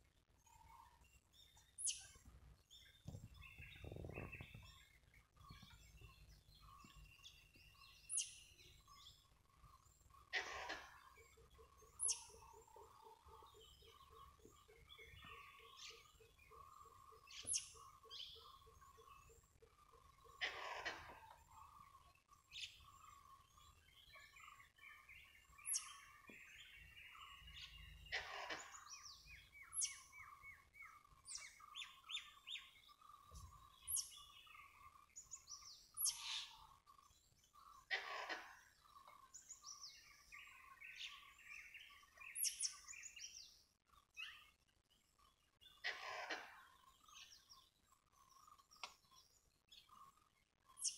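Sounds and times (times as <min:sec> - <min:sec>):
birds chattering: 0:00.6 - 0:44.5.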